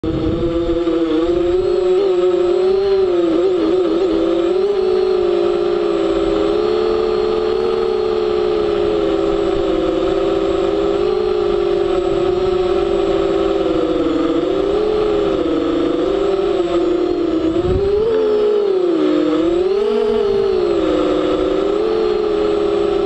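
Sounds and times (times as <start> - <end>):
drone propellers buzzing: 0.0 - 23.0.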